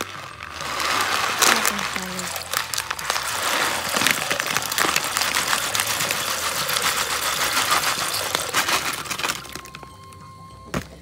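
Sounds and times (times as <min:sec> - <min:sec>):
beans pattering into water: 0:00.0 - 0:10.2.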